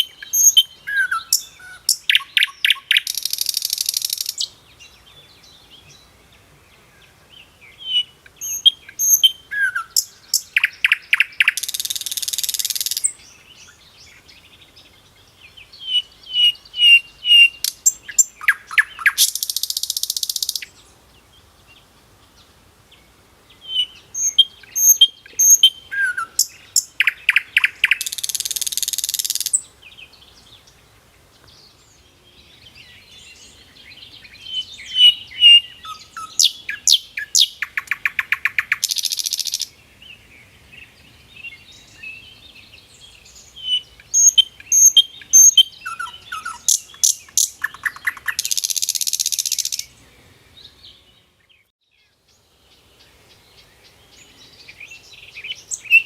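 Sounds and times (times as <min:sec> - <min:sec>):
faint bird chirps: 0:00.0 - 0:56.0
songbird singing: 0:00.0 - 0:56.0.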